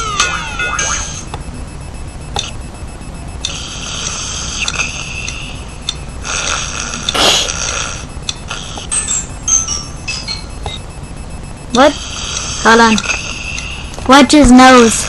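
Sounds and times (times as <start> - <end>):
electronic beeping: 0.0 - 15.0
steady low hum: 0.0 - 15.0.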